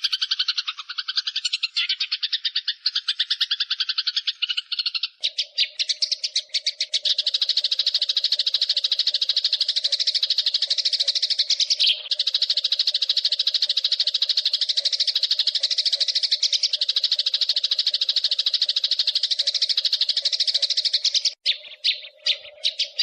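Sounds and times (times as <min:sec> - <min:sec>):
sparrows chattering: 0:00.0 - 0:23.0.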